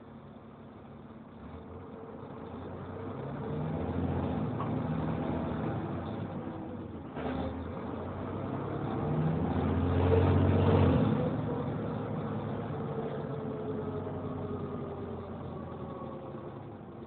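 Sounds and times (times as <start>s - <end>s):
bus diesel engine accelerating: 0.0s - 17.0s.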